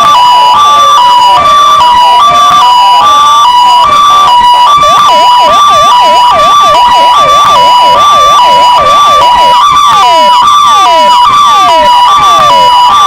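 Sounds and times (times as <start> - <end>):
hi-lo electronic siren: 0.0 - 13.0
yelping electronic siren: 0.0 - 13.0.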